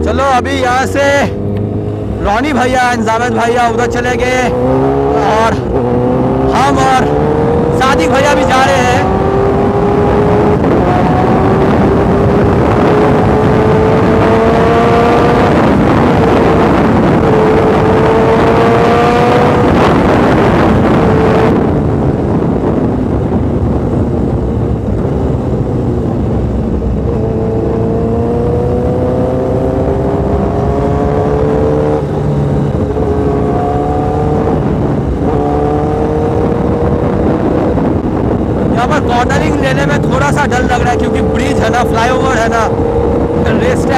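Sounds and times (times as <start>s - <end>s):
motorcycle engine accelerating: 0.0s - 43.9s
wind rush on microphone: 0.0s - 43.9s.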